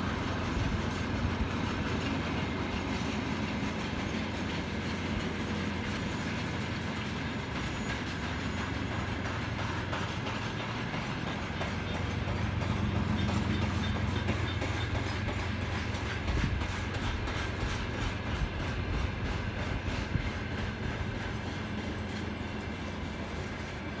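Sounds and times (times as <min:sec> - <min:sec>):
freight train rumbling: 0:00.0 - 0:24.0
wheels clicking over rail joints: 0:00.3 - 0:24.0.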